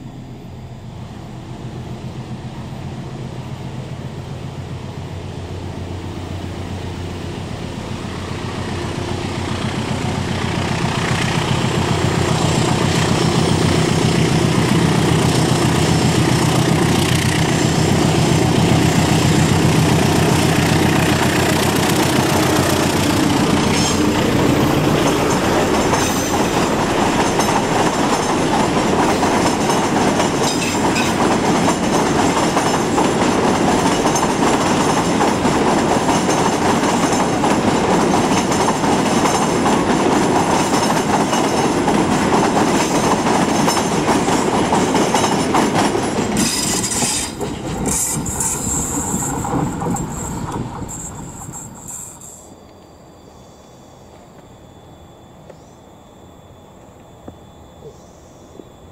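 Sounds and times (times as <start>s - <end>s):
locomotive engine passing: 0.0s - 52.5s
train wheels on rail over bridge: 0.0s - 58.9s.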